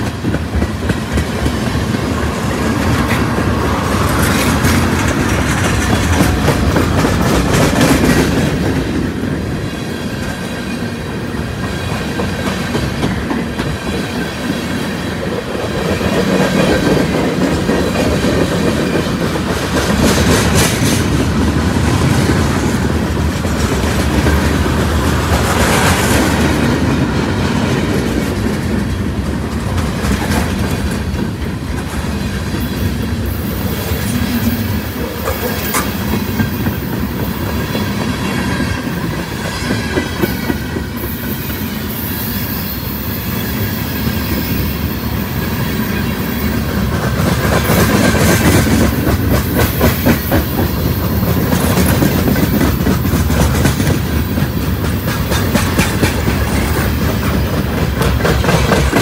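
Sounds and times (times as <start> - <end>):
train rumble: 0.0 - 59.0
train wheels clickety-clack: 0.0 - 59.0.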